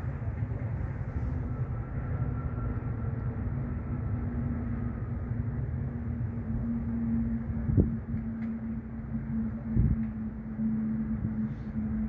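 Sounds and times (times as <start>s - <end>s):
faint engine hum: 0.0s - 12.0s
low rumble of road traffic: 0.0s - 12.0s.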